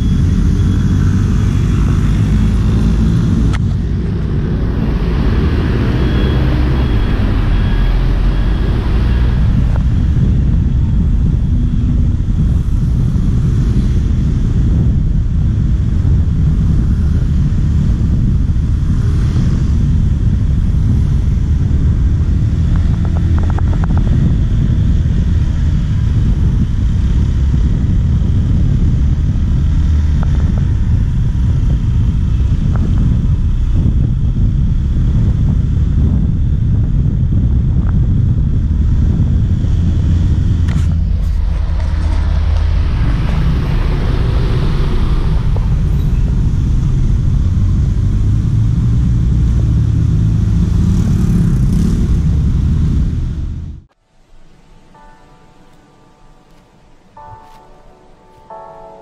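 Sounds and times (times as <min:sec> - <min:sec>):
passing scooters and cars: 0:00.0 - 0:53.9
wind buffeting microphone: 0:00.0 - 0:53.9.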